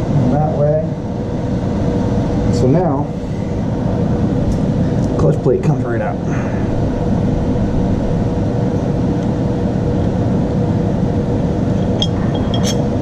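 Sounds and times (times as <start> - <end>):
low machine drone: 0.0 - 13.0.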